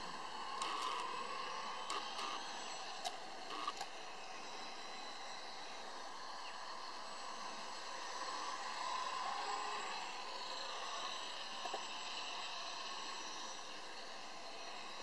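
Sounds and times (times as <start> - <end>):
model plane motor buzzing: 0.0 - 15.0.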